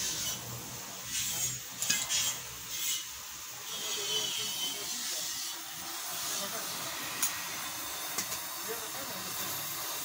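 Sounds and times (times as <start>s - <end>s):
gas welding torch hissing: 0.0s - 10.0s.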